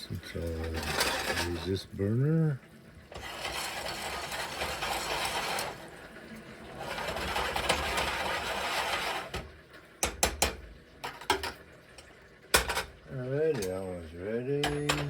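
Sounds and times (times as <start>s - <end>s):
stovetop hissing: 0.0s - 15.0s.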